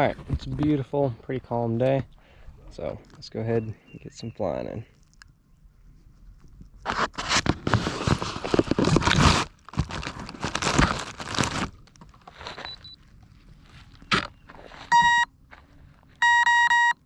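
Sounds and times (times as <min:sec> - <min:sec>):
crinkling handling noise: 0:00.0 - 0:03.4, 0:04.8 - 0:16.2.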